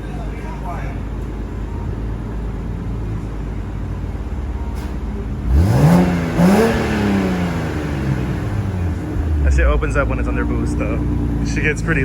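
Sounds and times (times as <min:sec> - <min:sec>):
car engine idling: 0:00.0 - 0:12.0
car engine revving: 0:00.0 - 0:12.0.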